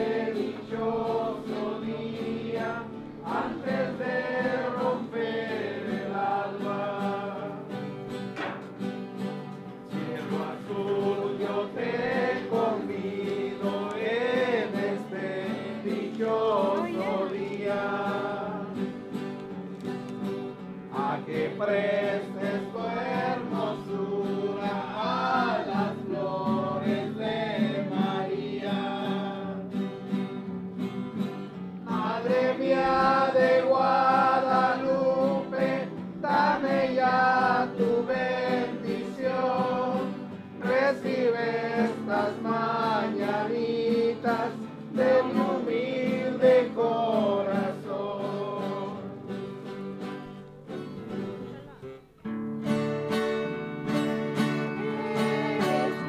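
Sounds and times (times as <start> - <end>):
group singing: 0.0 - 8.8, 9.8 - 19.6, 20.5 - 30.5, 31.2 - 49.9, 54.3 - 56.0
guitar: 0.0 - 56.0.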